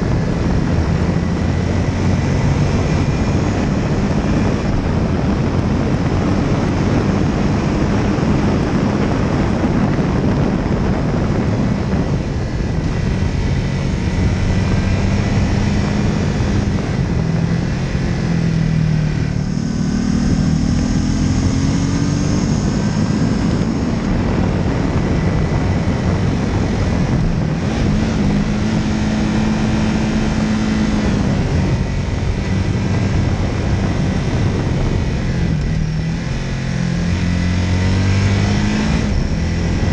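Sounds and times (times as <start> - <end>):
light aircraft engine and propeller: 0.0 - 36.5
wind rush on microphone: 0.0 - 39.9.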